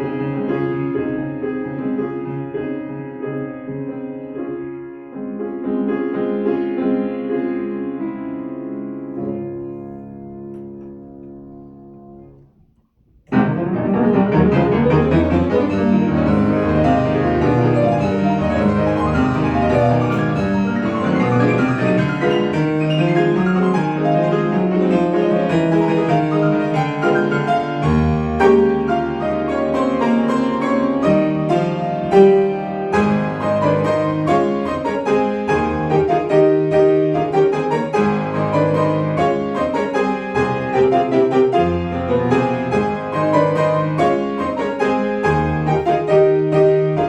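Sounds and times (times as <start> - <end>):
solo piano: 0.0 - 47.0.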